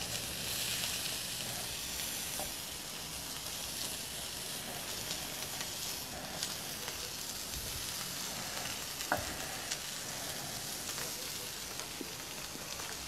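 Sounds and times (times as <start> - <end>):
steak sizzling on a grill: 0.0 - 13.0.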